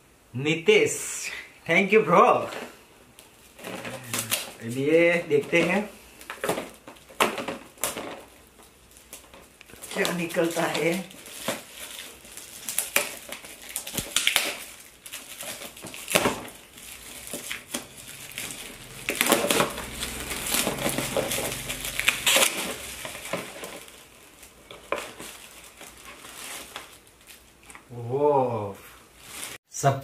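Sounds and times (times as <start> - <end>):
foil wrapping torn and crinkled: 3.2 - 27.9, 29.2 - 29.6.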